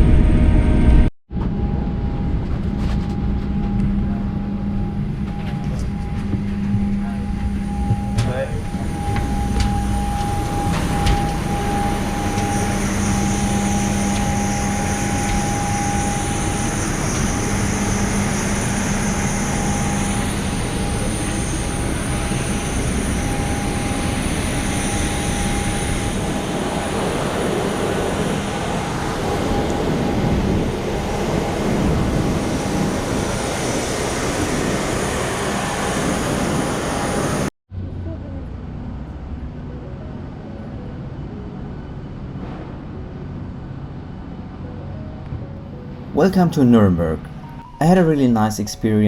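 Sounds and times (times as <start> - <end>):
airplane cabin rumble: 0.0 - 40.9
jet engines idle whine: 0.0 - 49.0.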